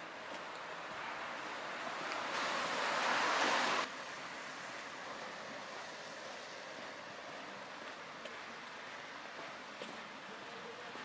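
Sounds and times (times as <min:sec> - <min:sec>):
street noise: 0:00.0 - 0:11.0
van passing: 0:00.0 - 0:11.0.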